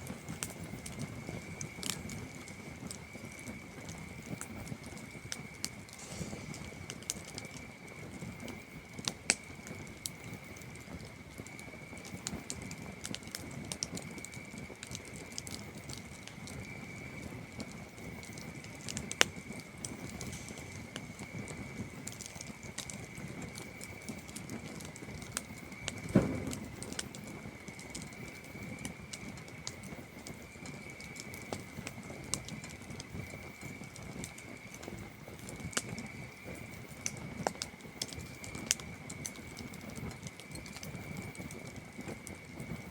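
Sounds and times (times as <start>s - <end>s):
campfire crackling and popping: 0.0s - 42.9s
crickets trilling: 0.0s - 42.9s.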